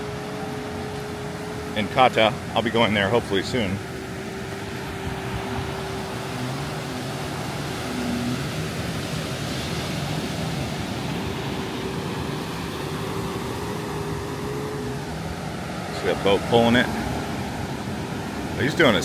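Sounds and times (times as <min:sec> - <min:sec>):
constant wash of noise: 0:00.0 - 0:19.0
distant motorboat engine droning: 0:00.0 - 0:19.0.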